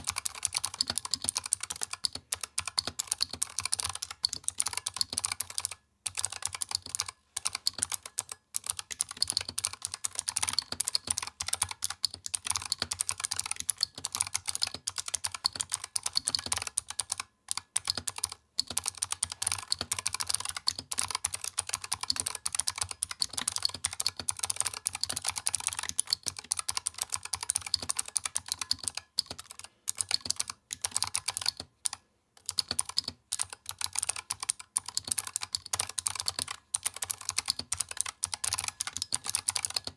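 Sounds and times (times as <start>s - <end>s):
fast clicky keyboard typing: 0.0s - 39.9s.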